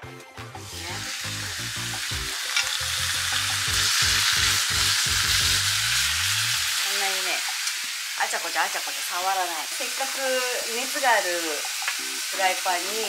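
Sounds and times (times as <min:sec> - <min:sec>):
beef sizzling in frying pan: 0:00.6 - 0:13.0.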